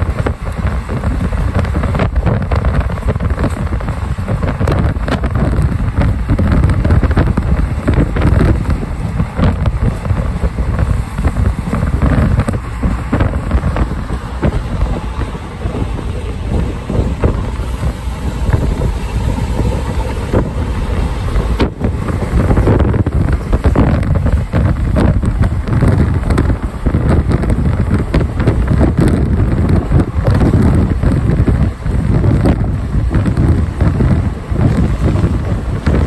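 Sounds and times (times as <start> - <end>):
train rumbling on track: 0.0 - 36.0
wind buffeting microphone: 0.0 - 36.0.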